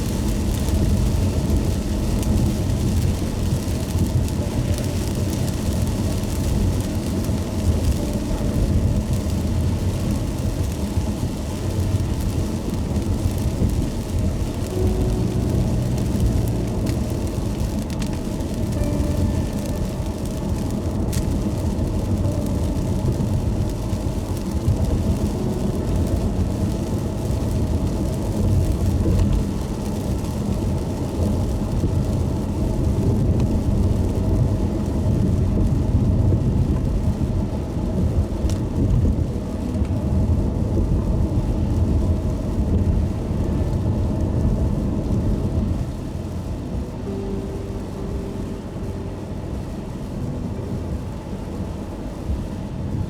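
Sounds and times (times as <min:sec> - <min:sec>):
car engine and tyres on wet road: 0:00.0 - 0:53.0
rain hiss and spray: 0:00.0 - 0:53.0.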